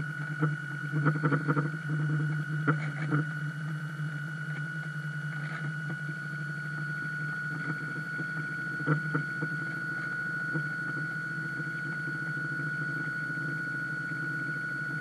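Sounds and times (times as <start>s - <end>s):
model boat motor humming: 0.0s - 13.6s.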